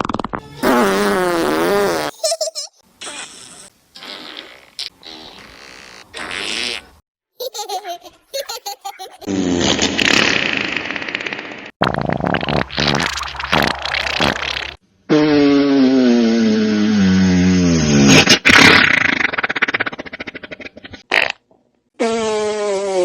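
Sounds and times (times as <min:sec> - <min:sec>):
fart sound effects: 0:00.0 - 0:02.2, 0:03.0 - 0:07.0, 0:09.2 - 0:21.4, 0:22.0 - 0:23.0.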